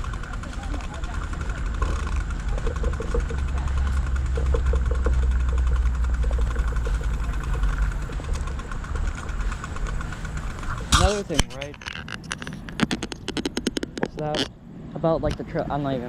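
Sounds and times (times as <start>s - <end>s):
wind and riding noise: 0.0s - 16.0s.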